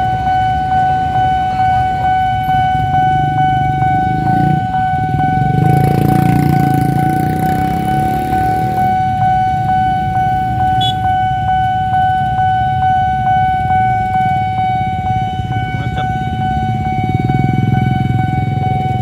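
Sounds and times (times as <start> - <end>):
level crossing alarm tone: 0.0 - 19.0
motorcycle engines idling: 0.0 - 19.0.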